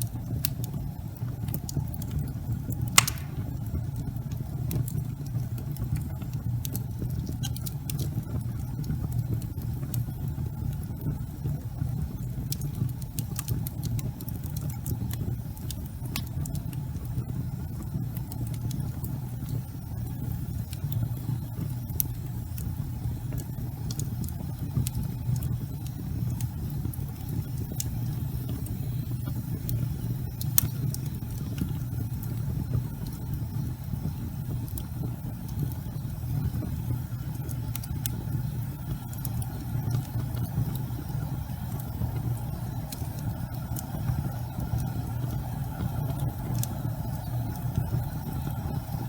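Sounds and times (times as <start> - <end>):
fire crackling and popping: 0.0 - 49.0
low rumble of flames: 0.0 - 49.0.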